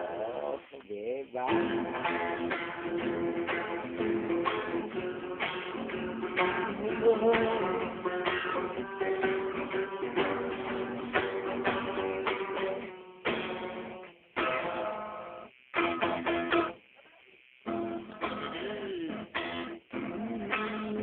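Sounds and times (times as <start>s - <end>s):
guitar strummed chords: 0.0s - 17.0s, 17.6s - 21.0s.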